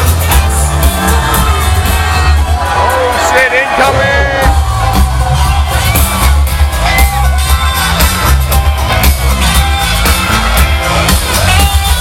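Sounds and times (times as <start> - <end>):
crowd noise: 0.0 - 12.0
live band music with heavy bass: 0.0 - 12.0.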